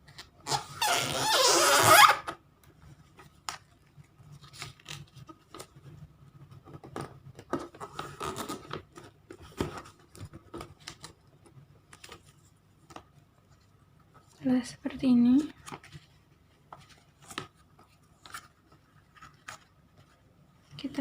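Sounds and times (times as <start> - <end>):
paper rustling while folded: 2.7 - 6.6, 7.4 - 21.0.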